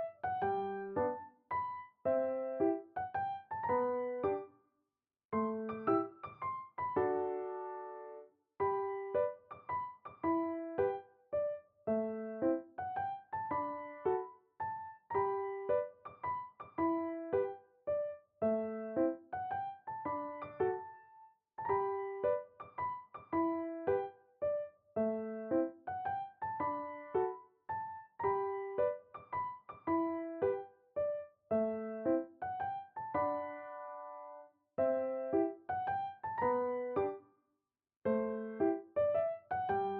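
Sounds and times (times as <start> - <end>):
gentle piano music: 0.0 - 4.6, 5.4 - 37.3, 38.0 - 39.9.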